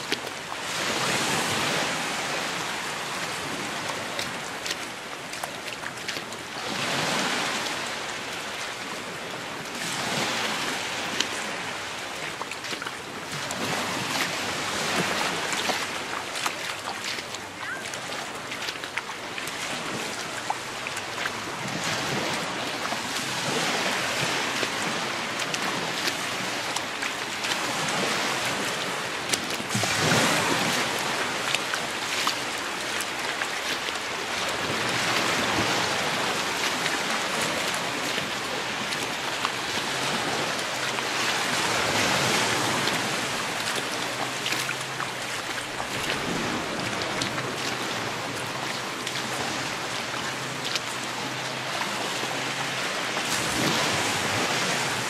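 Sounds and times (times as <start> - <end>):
surf washing onto beach: 0.0 - 55.0.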